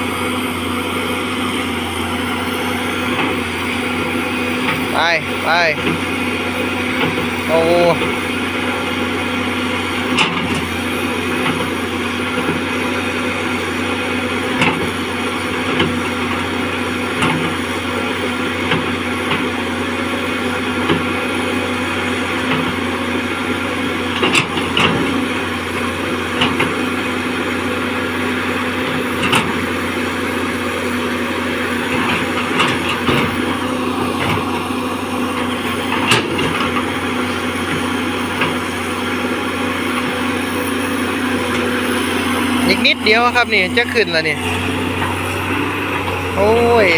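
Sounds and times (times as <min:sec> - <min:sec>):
excavator diesel engine under load: 0:00.0 - 0:46.9.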